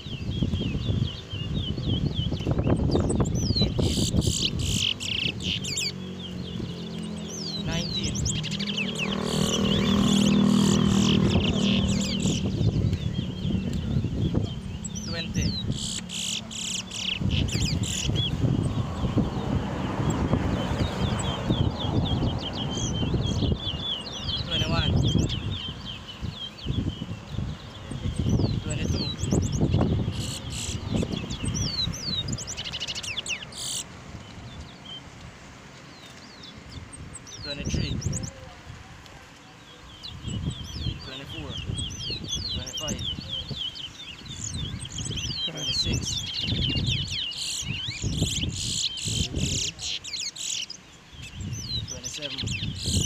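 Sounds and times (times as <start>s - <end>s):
bird singing whistled notes: 0.0s - 35.0s, 35.9s - 38.5s, 39.6s - 53.0s
finch chirping and trilling: 0.0s - 35.2s, 35.8s - 38.6s, 39.5s - 53.0s.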